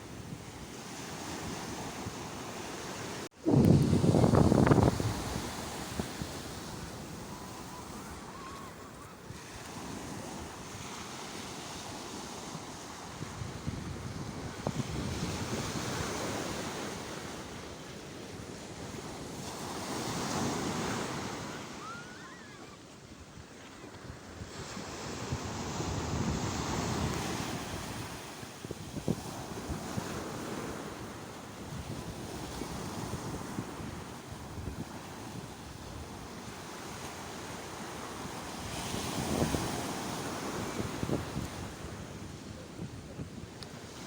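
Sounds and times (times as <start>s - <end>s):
sea waves breaking on shore: 0.0s - 44.0s.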